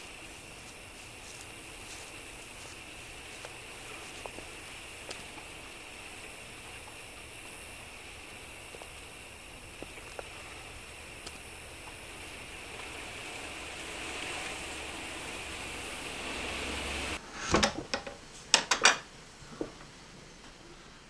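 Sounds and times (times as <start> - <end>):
outdoor hiss: 0.0 - 21.0.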